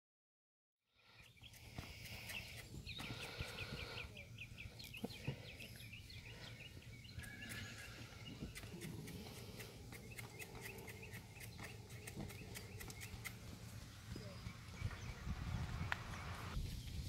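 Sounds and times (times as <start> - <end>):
bird chirping: 1.0 - 17.0.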